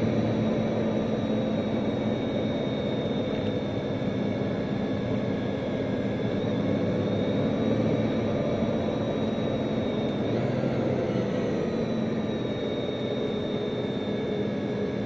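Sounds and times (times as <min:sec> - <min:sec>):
car engine and tyre noise in cabin: 0:00.0 - 0:15.0
faint high whine: 0:00.0 - 0:15.0.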